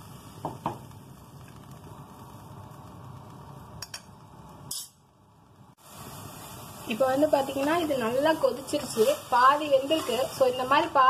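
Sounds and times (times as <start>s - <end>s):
soup bubbling in a pot: 0.0s - 10.6s.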